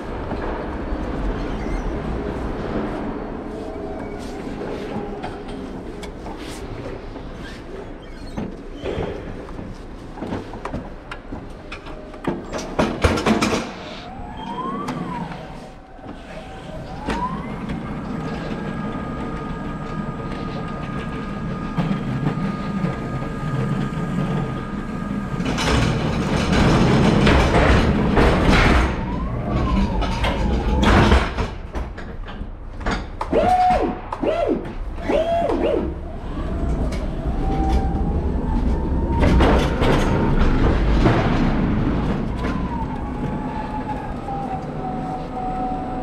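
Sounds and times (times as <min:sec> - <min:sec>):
rolling truck rumbling and clatter: 0:00.0 - 0:46.0.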